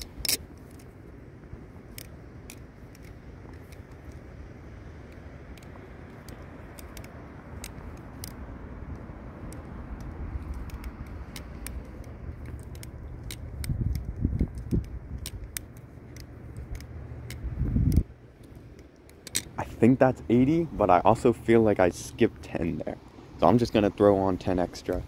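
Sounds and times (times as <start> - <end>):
butterfly knife handles clicking: 0.0 - 22.6.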